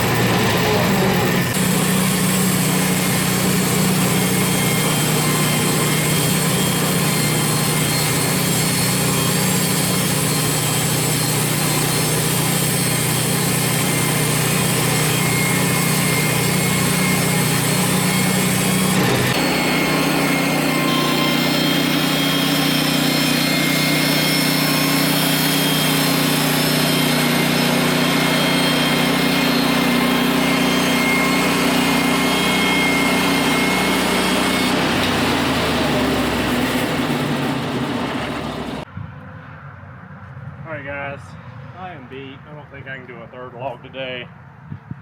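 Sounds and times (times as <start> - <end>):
small engine running: 0.0 - 38.8.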